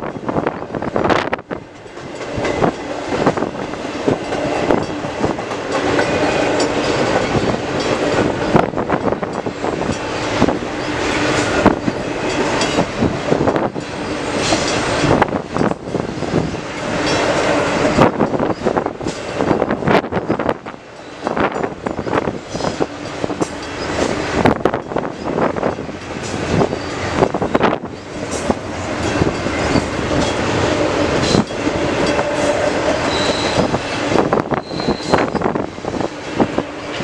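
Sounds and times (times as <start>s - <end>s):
rumble of train wheels on rail: 0.0s - 37.0s.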